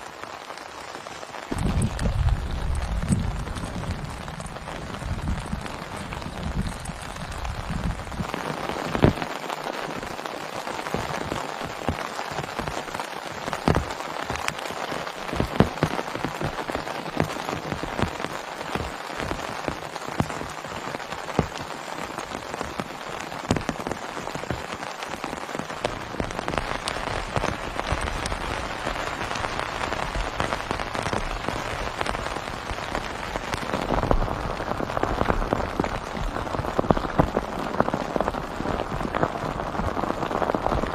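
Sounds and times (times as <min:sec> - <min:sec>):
heavy rain falling: 0:00.0 - 0:40.9
raindrops ticking close by: 0:00.0 - 0:40.9.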